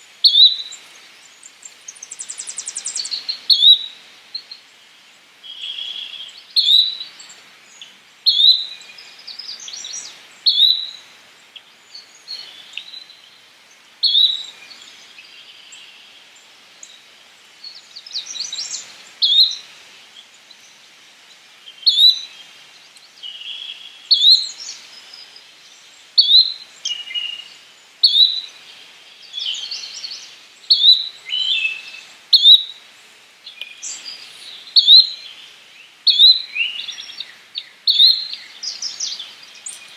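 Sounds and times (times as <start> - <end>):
birds singing faintly: 0.0 - 39.9.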